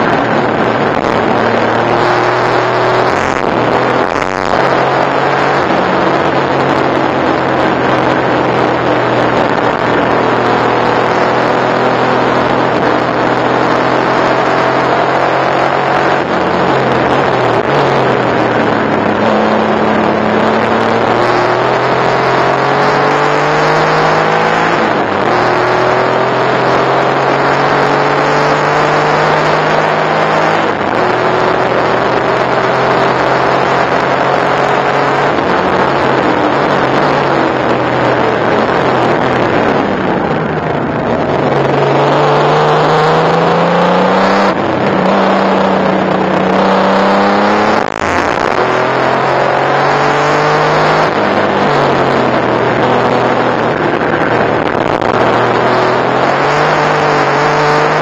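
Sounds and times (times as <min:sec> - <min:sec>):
car engine revving through gears: 0:00.0 - 0:58.0.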